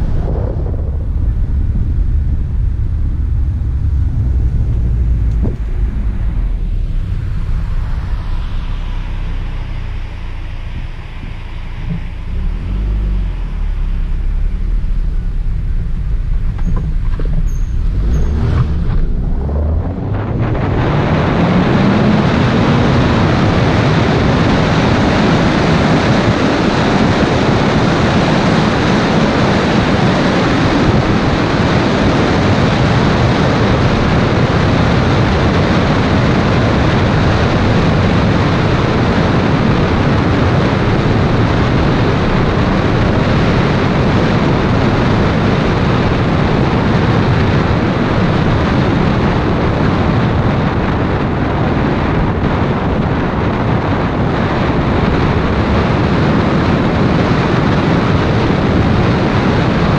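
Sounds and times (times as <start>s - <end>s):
tyre and road noise: 0.0s - 59.9s
wind rushing over microphone: 0.0s - 59.9s.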